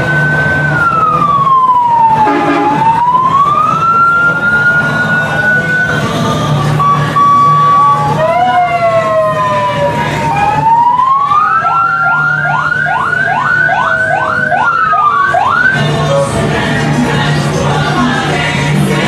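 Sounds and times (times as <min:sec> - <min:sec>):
electronic siren: 0:00.0 - 0:15.8
engines running: 0:00.0 - 0:19.0.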